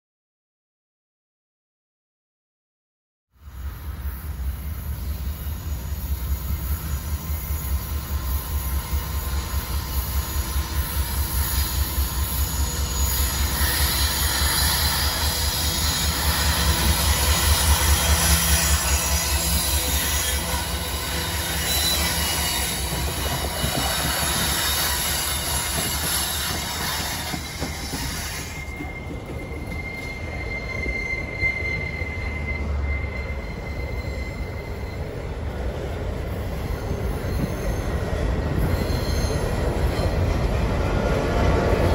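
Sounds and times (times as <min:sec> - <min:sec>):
train wheels rolling: 0:04.0 - 0:41.9
high-pitched wheel squeal: 0:04.2 - 0:35.3, 0:36.5 - 0:40.2.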